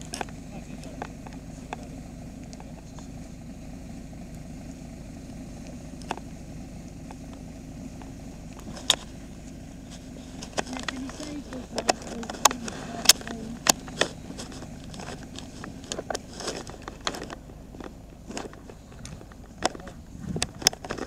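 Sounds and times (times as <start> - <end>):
heavy truck engine running: 0.0 - 21.0.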